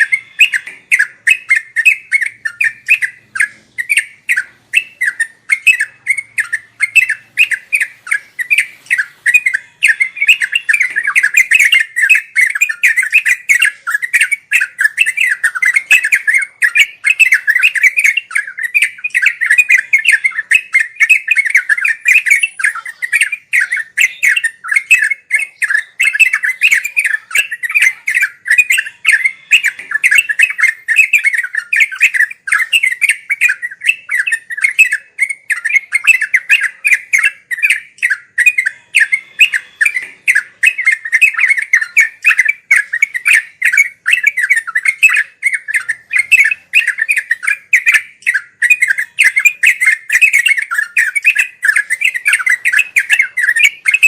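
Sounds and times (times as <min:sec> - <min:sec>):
bird singing warbling notes: 0:00.0 - 0:54.0.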